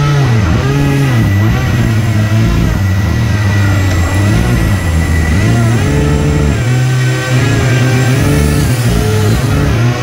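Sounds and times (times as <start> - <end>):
fans whining: 0.0 - 10.0.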